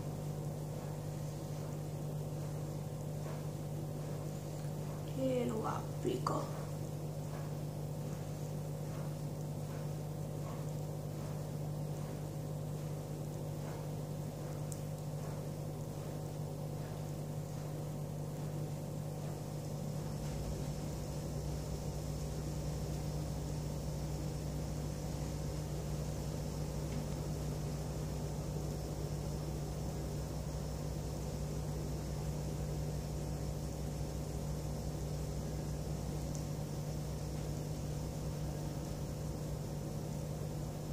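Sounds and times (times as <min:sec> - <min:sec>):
machine hum with faint hiss: 0:00.0 - 0:40.9.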